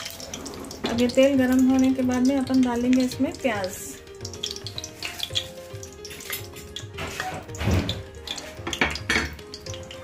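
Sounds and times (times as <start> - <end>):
background music: 0.0 - 10.0
oil crackling and popping: 0.0 - 10.0.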